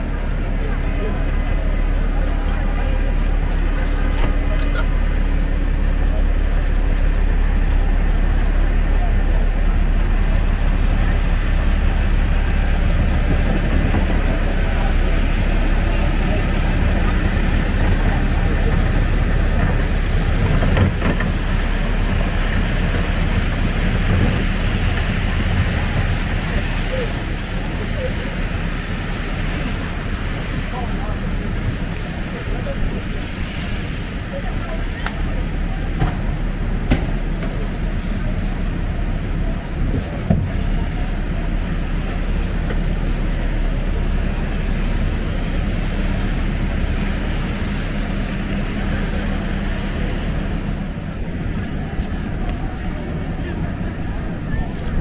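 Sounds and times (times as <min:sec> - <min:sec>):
storm wind buffeting microphone: 0:00.0 - 0:55.0
street traffic: 0:00.0 - 0:55.0.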